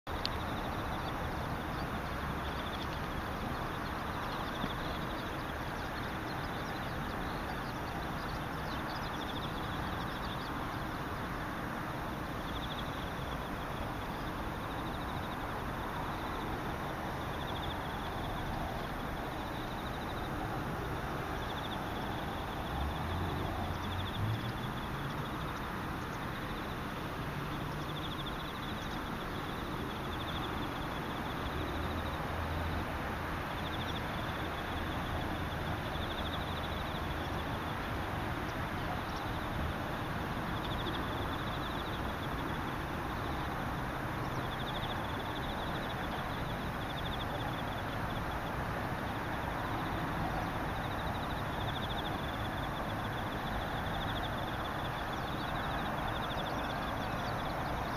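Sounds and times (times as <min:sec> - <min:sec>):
steady outdoor hiss: 0:00.0 - 0:57.9
distant engine hum: 0:00.1 - 0:57.9
insects trilling: 0:00.1 - 0:57.9.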